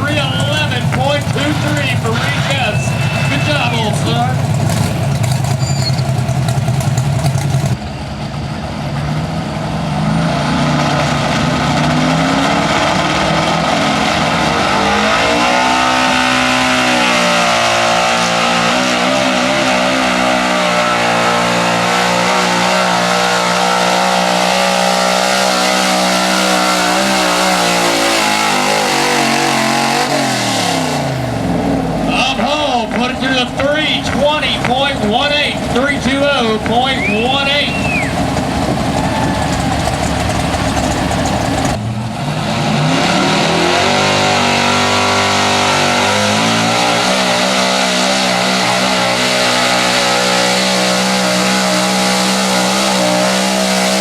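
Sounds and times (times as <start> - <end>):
truck engine revving under load: 0.0 - 54.0.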